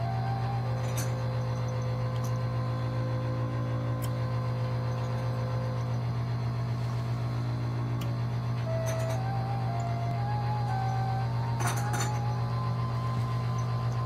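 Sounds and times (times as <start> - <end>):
soft background music: 0.0 - 14.0
suction pump humming: 0.0 - 14.0.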